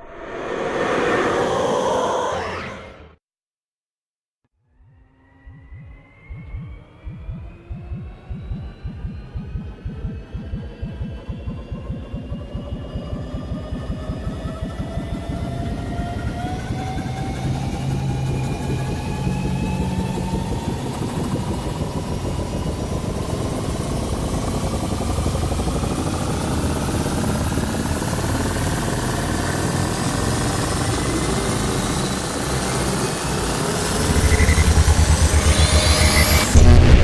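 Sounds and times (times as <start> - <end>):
machine spooling up whine: 0.0 - 3.1, 5.6 - 37.0.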